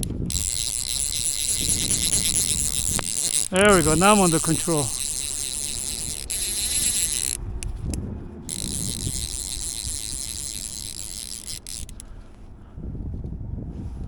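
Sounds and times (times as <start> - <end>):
fishing reel ratchet buzzing: 0.0 - 12.2.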